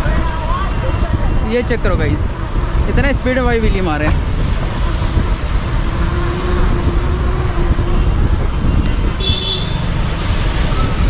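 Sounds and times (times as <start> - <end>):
traffic: 0.0 - 11.0
tyre and road noise: 0.0 - 11.0
wind on microphone: 0.0 - 11.0.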